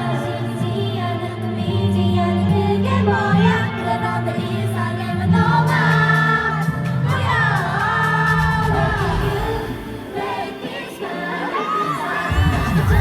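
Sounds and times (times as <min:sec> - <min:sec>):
group singing: 0:00.0 - 0:13.0
pop backing track: 0:00.0 - 0:13.0.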